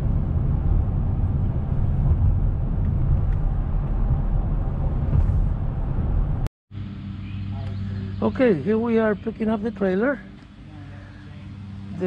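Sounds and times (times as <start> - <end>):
vehicle cabin road and engine noise: 0.0 - 12.0.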